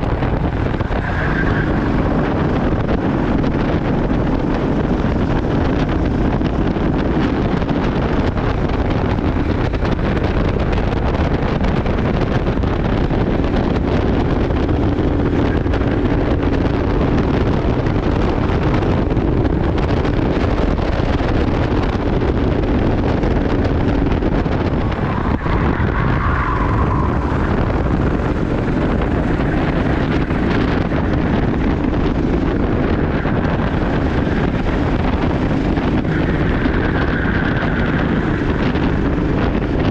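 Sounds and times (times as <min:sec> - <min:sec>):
kart engine racing: 0:00.0 - 0:39.9
wind buffeting microphone: 0:00.0 - 0:39.9.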